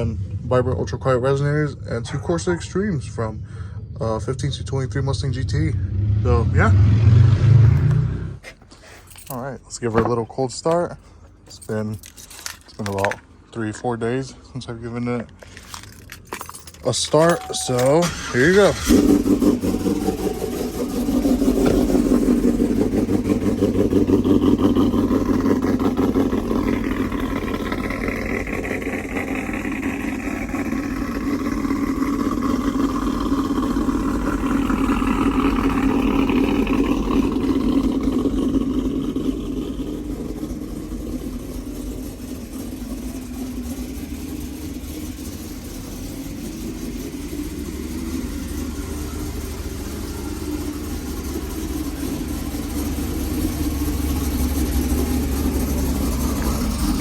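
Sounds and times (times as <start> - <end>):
engine fast-idling: 0.0 - 6.7, 16.9 - 57.0.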